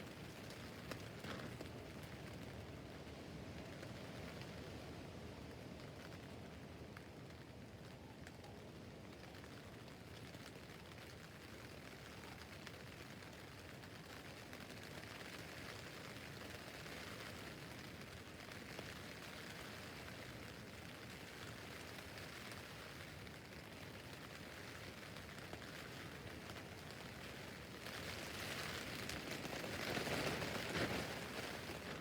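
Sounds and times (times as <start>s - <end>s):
rain on a tent roof: 0.0s - 32.0s.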